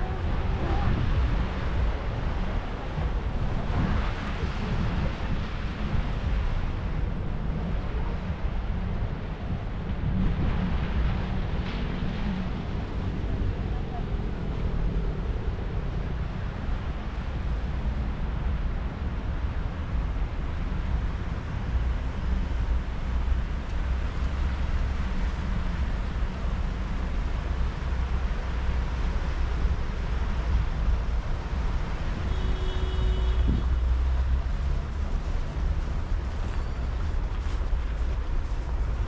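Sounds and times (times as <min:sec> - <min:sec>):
city road traffic rumble: 0:00.0 - 0:39.0.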